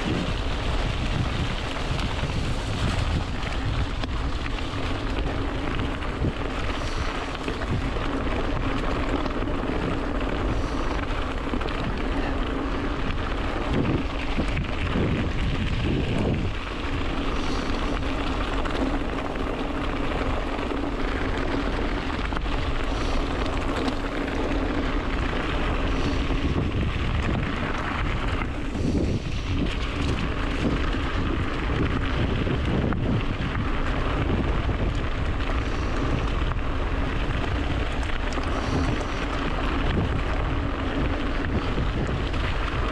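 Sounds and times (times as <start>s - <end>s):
bike tyres rolling on gravel: 0.0s - 42.9s
constant low hum: 0.0s - 42.9s
wind buffeting microphone: 0.0s - 42.9s.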